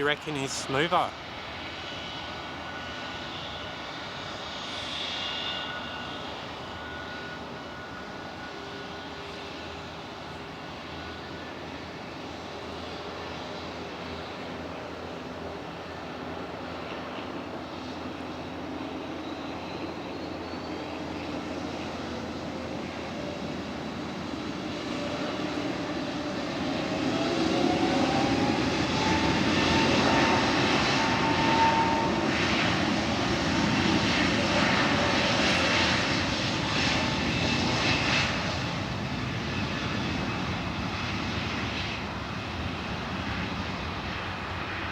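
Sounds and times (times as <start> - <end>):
jet engines whining: 0.0 - 44.9.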